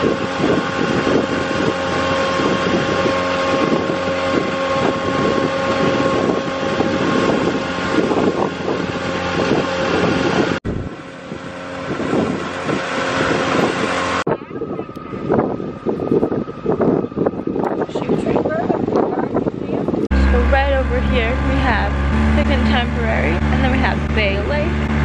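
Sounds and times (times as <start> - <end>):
water rushing: 0.0 - 16.0, 17.5 - 25.0
motorboat engine running: 0.0 - 25.0
wind on microphone: 0.0 - 25.0.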